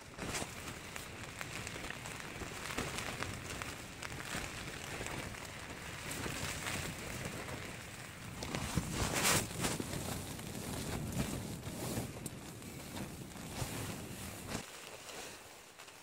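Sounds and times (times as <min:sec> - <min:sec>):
rain tapping on tent fabric: 0:00.0 - 0:16.0.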